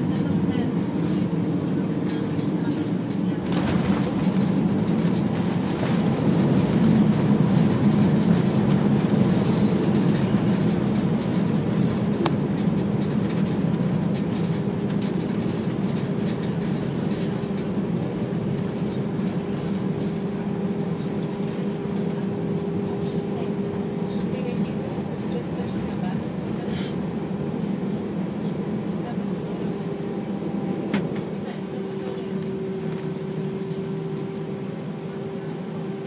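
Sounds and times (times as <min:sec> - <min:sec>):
aircraft engines and wheels rumbling: 0:00.0 - 0:36.0.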